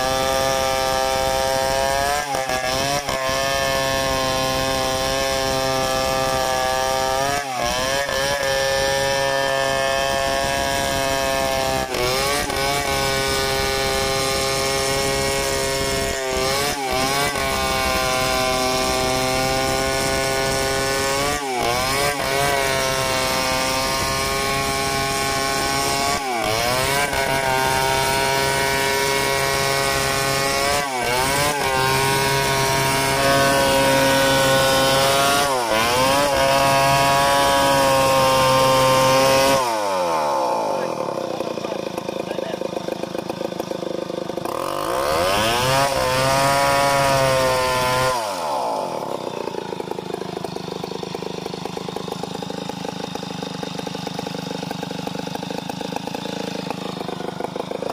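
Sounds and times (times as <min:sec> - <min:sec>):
chainsaw cutting through log: 0:00.0 - 0:57.9.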